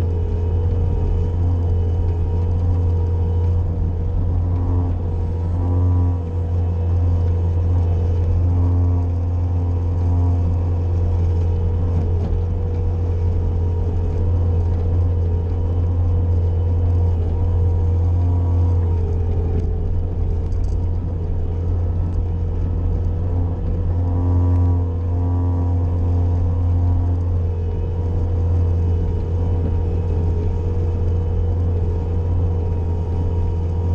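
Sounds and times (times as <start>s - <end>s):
loader engine running: 0.0s - 33.9s.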